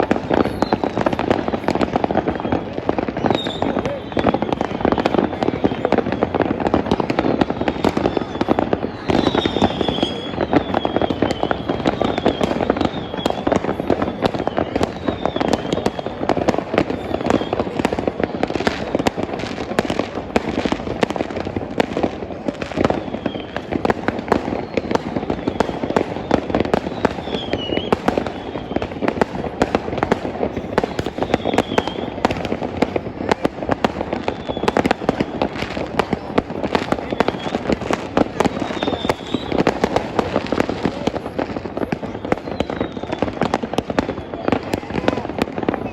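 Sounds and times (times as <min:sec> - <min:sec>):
fireworks popping and crackling: 0:00.0 - 0:45.9
fireworks whistling: 0:00.0 - 0:45.9.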